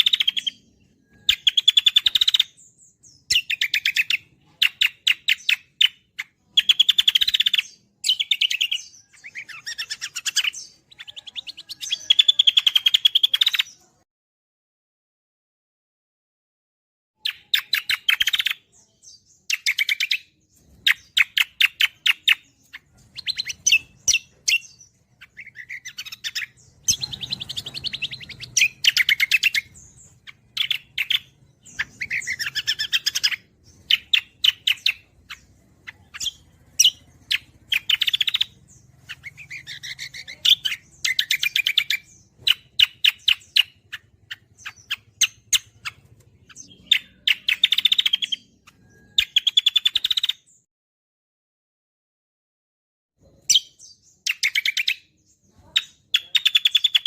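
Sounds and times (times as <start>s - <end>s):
songbird chattering song: 0.0s - 14.0s, 17.2s - 50.7s, 53.2s - 57.0s.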